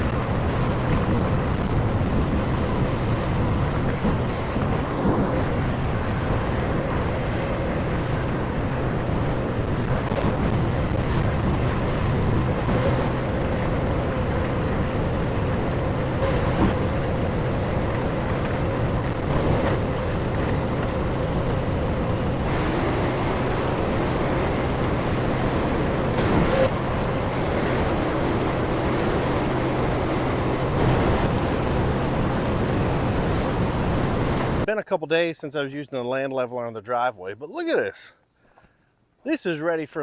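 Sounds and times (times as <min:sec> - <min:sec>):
gas engine running: 0:00.0 - 0:34.7.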